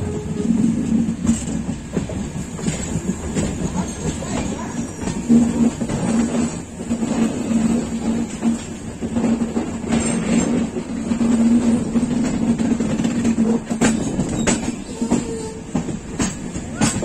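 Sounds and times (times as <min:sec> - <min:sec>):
train wheels clattering: 0:00.0 - 0:17.0.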